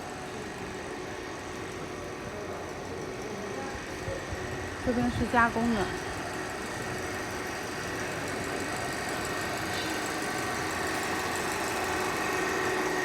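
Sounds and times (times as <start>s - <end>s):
workshop machinery humming: 0.0s - 13.0s.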